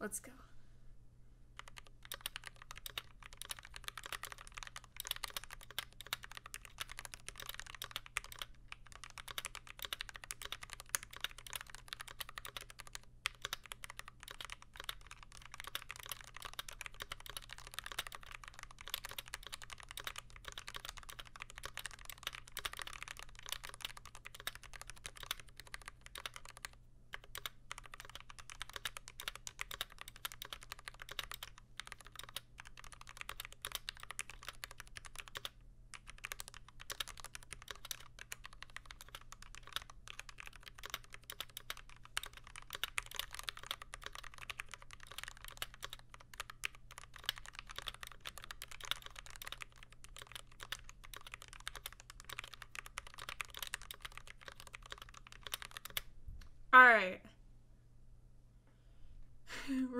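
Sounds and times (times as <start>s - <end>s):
mechanical keyboard typing: 1.6s - 56.1s.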